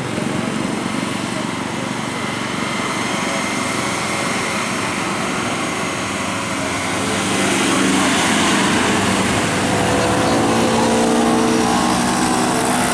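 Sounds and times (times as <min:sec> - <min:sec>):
bus engine passing: 0:00.0 - 0:12.9.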